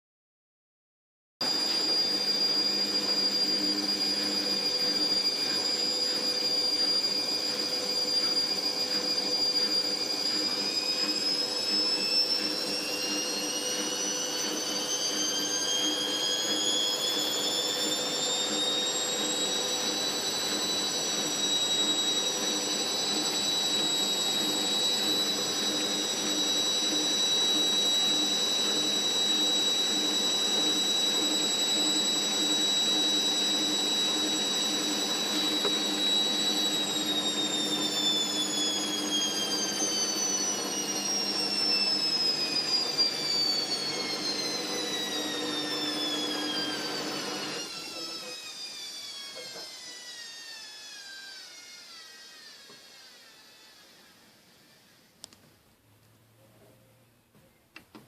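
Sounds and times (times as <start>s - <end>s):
washing machine motor whine: 1.4s - 55.3s.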